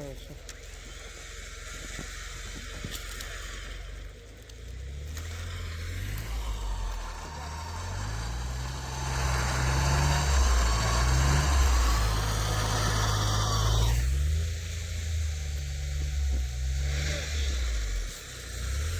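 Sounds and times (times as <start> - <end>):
vehicle engine revving: 0.0 - 18.9.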